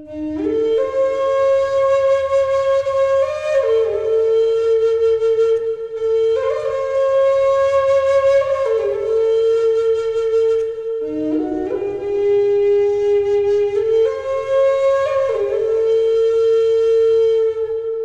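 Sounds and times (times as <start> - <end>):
breathy wooden flute notes: 0.0 - 18.0.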